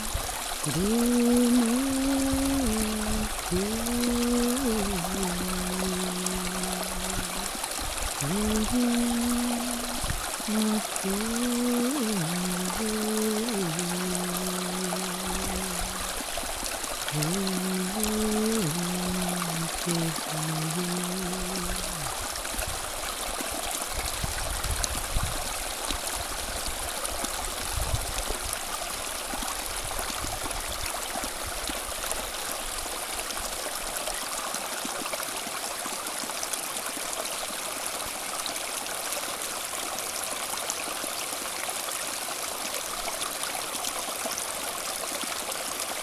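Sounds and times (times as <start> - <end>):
running water flowing: 0.0 - 46.0.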